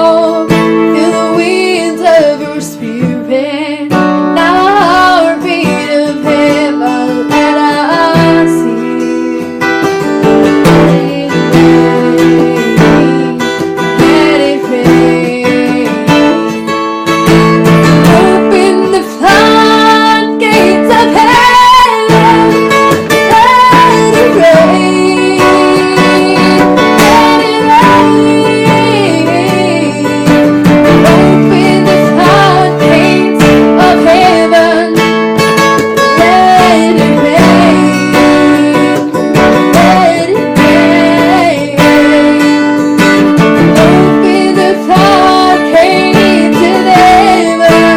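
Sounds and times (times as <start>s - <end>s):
acoustic guitar chords: 0.0s - 47.9s
person singing: 0.0s - 47.9s.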